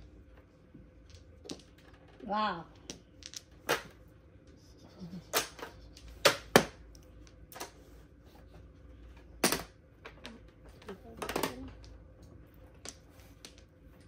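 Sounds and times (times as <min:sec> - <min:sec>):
mahjong tiles clacking: 0:00.0 - 0:07.8, 0:09.2 - 0:14.0.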